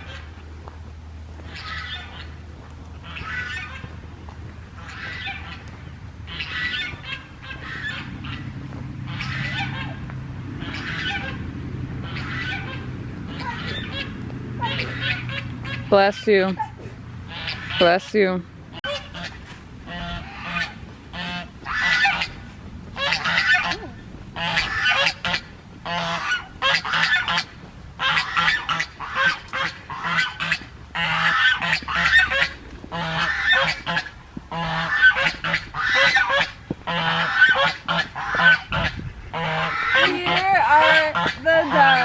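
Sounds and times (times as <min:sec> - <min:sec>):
farm waterfowl calling: 0:00.0 - 0:42.0.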